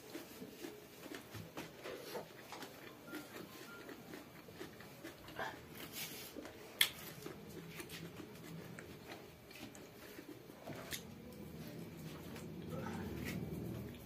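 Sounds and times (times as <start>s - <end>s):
soft chewing and mouth noises: 0.0s - 14.0s.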